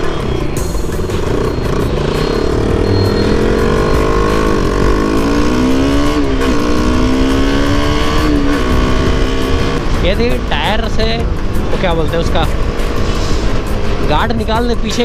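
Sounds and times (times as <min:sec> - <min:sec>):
motorcycle engine accelerating: 0:00.0 - 0:15.0
heavy wind noise: 0:02.3 - 0:15.0.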